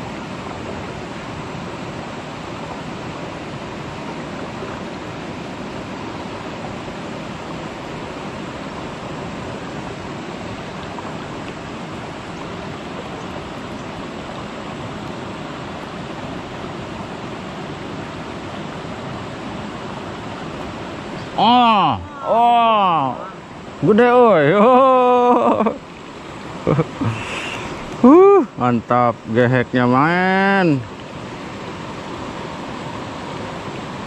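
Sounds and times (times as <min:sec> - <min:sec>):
river rushing over rocks: 0:00.0 - 0:34.0.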